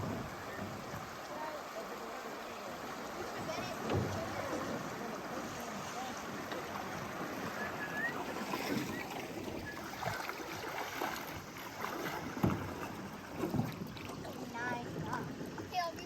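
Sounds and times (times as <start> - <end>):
creek water rushing over rapids: 0.0 - 15.3.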